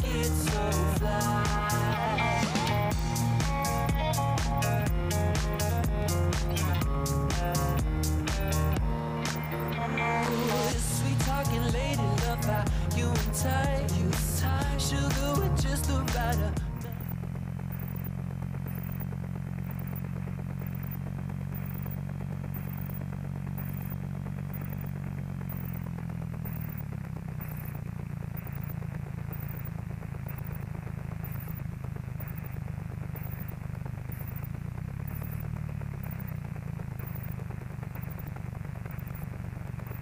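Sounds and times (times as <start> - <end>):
aircraft rumbling along runway: 0.0 - 40.0
light aircraft piston engine: 0.0 - 40.0.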